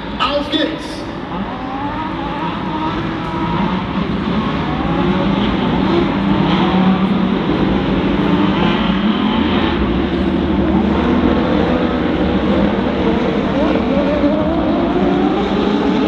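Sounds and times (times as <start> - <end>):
race car engines accelerating: 0.0 - 16.0.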